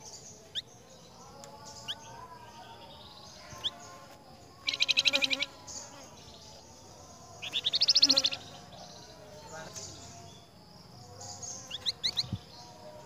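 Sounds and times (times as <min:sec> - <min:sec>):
songbird buzzy trills: 0:00.0 - 0:13.0.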